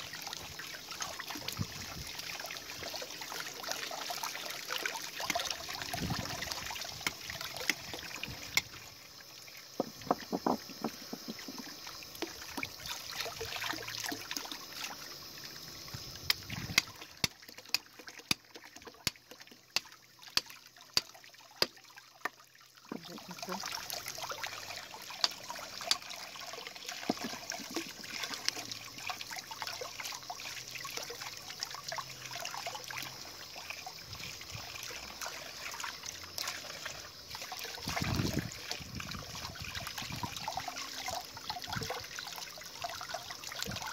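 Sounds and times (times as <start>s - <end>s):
hose water running and splashing: 0.0s - 43.9s.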